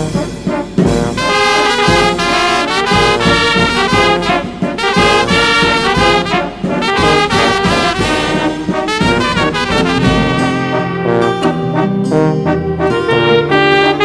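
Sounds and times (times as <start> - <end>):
brass instrumental music: 0.0 - 14.0.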